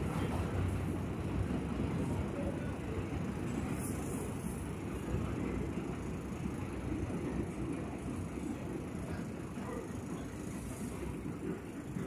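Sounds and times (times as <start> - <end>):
subway train rumbling on steel: 0.0 - 12.0.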